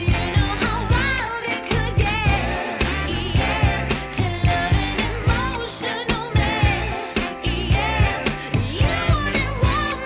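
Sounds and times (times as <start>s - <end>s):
pop music with sung vocal: 0.0s - 10.0s.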